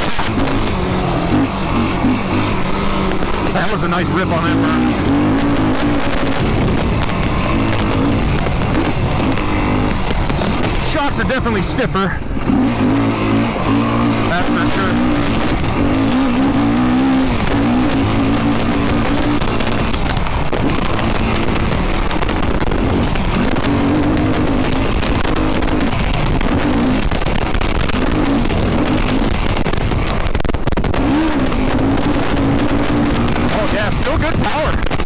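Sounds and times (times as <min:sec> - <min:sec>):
quad engine revving: 0:00.0 - 0:35.0
wind and ground noise: 0:00.0 - 0:35.0.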